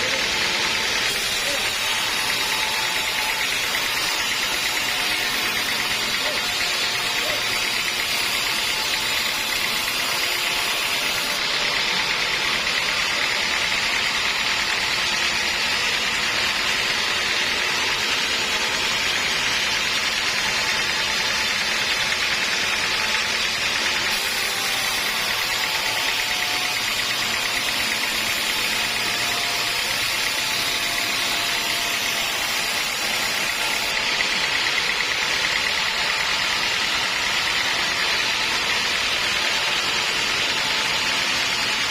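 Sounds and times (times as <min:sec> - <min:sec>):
sawmill saw running: 0:00.0 - 0:41.9.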